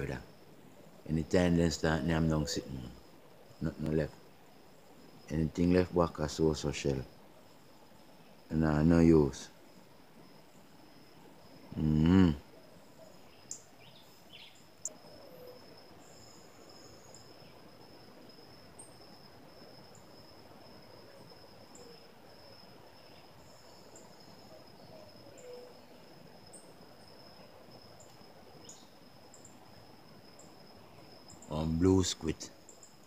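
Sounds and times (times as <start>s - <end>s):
faint chirps: 0.0s - 9.8s, 10.4s - 33.0s.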